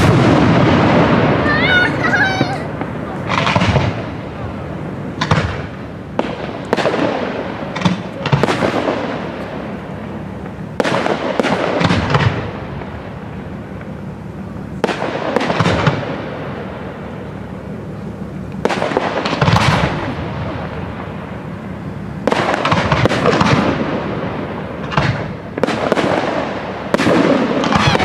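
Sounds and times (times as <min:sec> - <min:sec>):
fireworks bangs echoing: 0:00.0 - 0:28.0.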